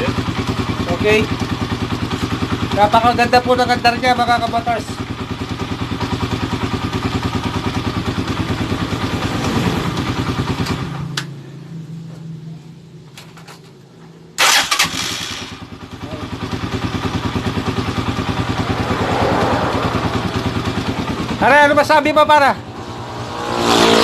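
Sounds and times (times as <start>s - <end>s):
motorcycle engine starting: 0.0s - 12.2s, 14.4s - 21.9s
motorcycle engine idling: 0.0s - 22.7s.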